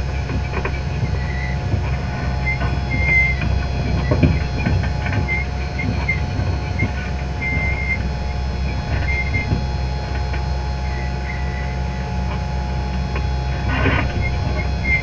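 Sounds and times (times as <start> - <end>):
machine whine: 0.0 - 15.0
tractor engine rumble: 0.0 - 15.0.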